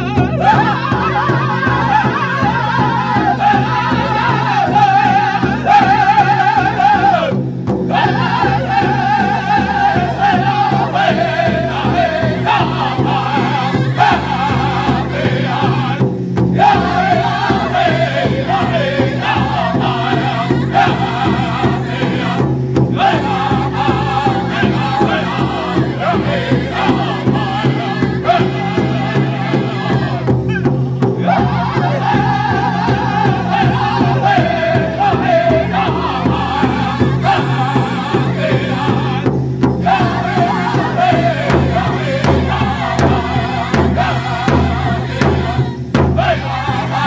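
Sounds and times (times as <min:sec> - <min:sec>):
men singing in high voices: 0:00.0 - 0:47.0
steady beat: 0:00.0 - 0:47.0.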